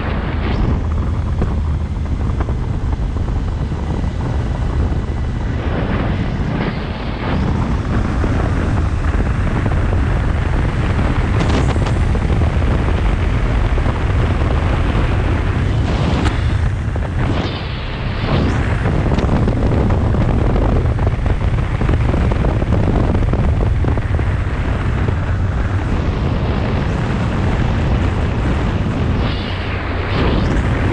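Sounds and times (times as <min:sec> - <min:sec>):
motorcycle engine: 0:00.0 - 0:30.9
wind buffeting on microphone: 0:00.0 - 0:30.9.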